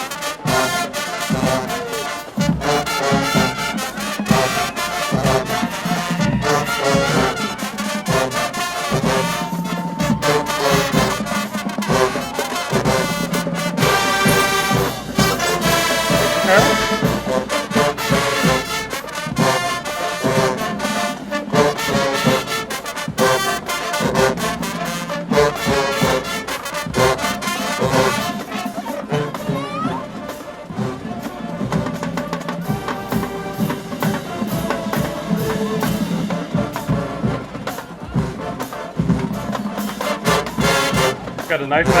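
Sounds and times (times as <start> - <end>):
drum line: 0.0 - 42.0
marching band playing: 0.0 - 42.0.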